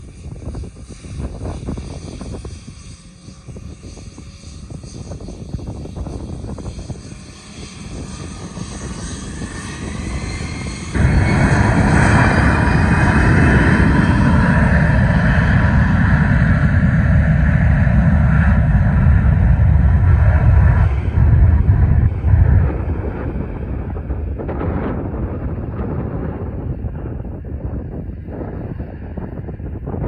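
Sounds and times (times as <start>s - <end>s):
jet engines spooling up: 0.0s - 30.0s
loud jet roar: 0.0s - 30.0s.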